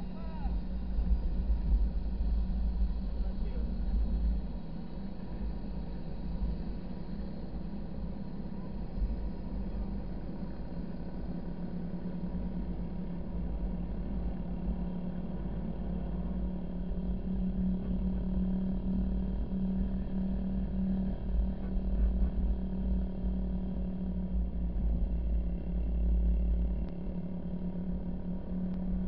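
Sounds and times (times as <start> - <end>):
car engine drone on sand: 0.0 - 29.0.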